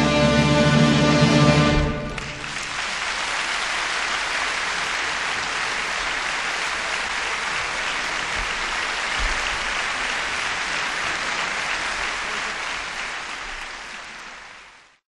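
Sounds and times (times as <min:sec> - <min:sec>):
audience clapping: 0:01.8 - 0:15.0.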